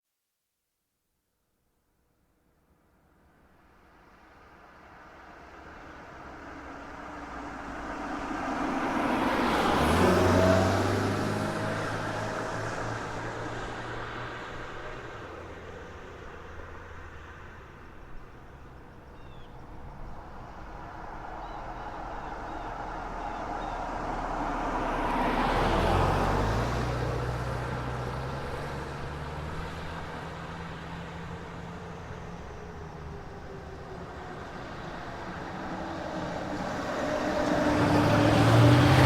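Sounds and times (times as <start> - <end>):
road traffic hum: 3.0 - 39.0
car passing by: 3.7 - 39.0.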